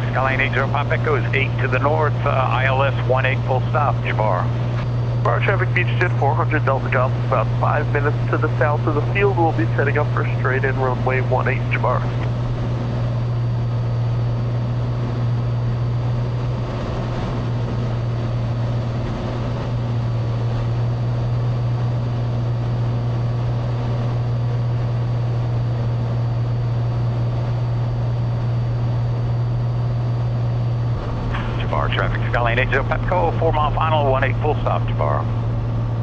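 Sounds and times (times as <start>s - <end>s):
propeller plane engine droning: 0.0s - 36.0s.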